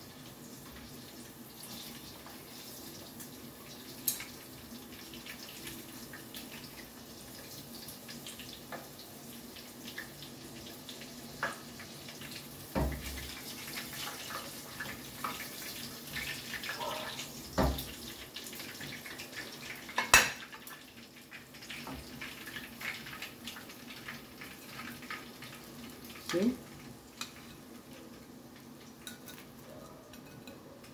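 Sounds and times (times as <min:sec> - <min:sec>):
shrimp deep-frying in hot oil: 0:00.0 - 0:30.9.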